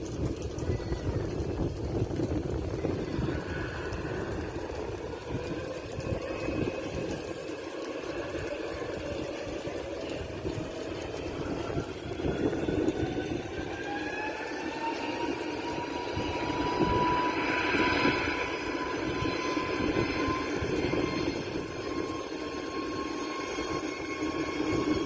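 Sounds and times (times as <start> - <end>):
jet engines spooling up: 0.0 - 25.0
rising engine whine: 0.0 - 25.0.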